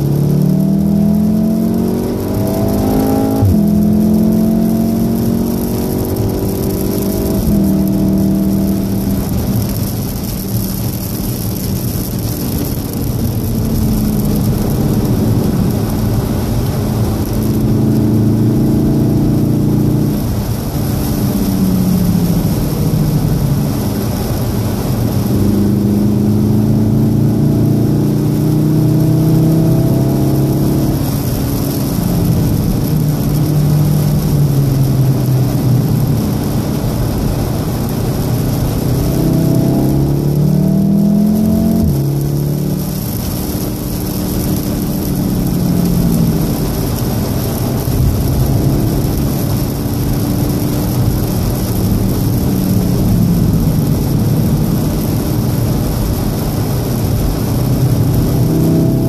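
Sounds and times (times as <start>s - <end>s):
car engine pulling hard: 0.0s - 59.0s
tyres hissing on wet road: 0.0s - 59.0s.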